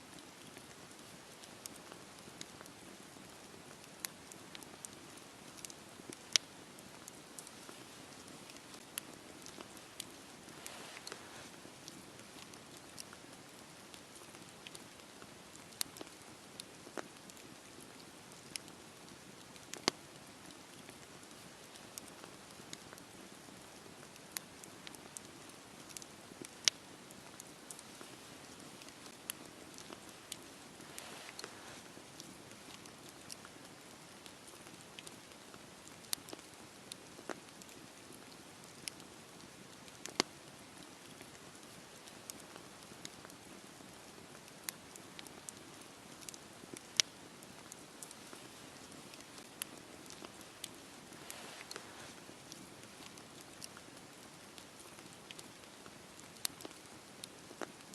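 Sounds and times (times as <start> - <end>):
fire crackles and pops: 0.0 - 57.9
campfire hissing: 0.1 - 57.9.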